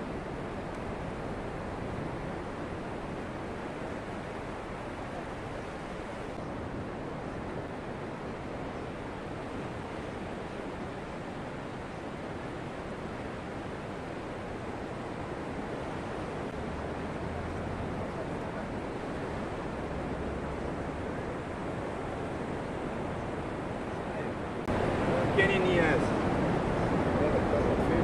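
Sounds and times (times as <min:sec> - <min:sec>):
ocean surf breaking on beach: 0:00.0 - 0:28.0.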